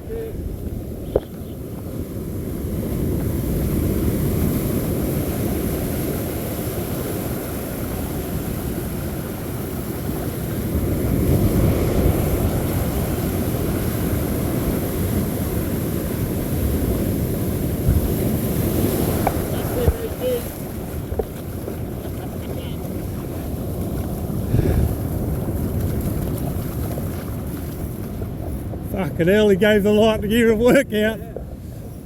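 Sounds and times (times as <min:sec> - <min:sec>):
wind on microphone: 0:00.0 - 0:29.2
breaking surf: 0:00.0 - 0:31.7.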